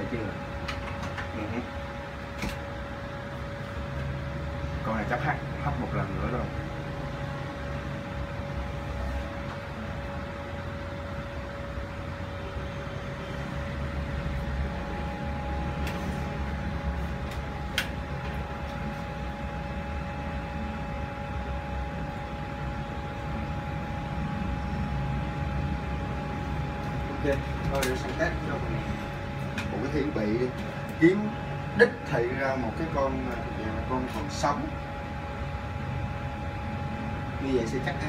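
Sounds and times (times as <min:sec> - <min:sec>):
hot-air station whirring: 0:00.0 - 0:38.0.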